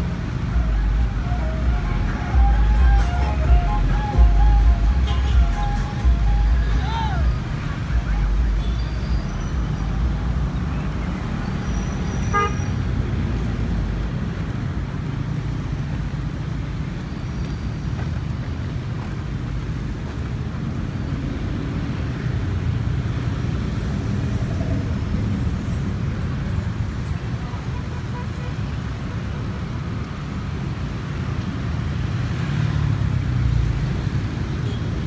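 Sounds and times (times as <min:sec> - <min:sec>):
low rumble of distant engines: 0:00.0 - 0:35.0.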